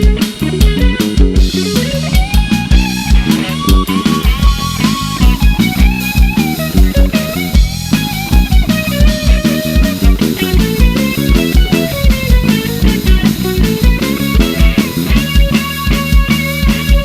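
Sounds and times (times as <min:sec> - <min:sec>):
lead guitar bending notes: 0:00.0 - 0:17.0
rock band instrumental: 0:00.0 - 0:17.0.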